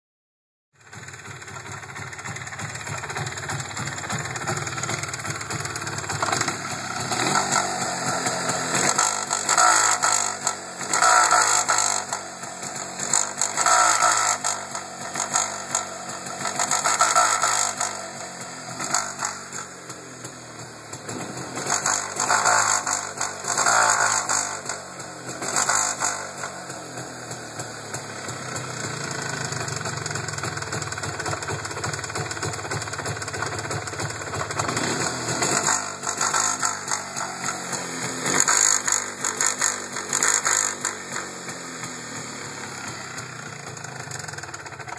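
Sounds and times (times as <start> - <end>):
two-stroke motorcycle engine revving: 0.8 - 44.9.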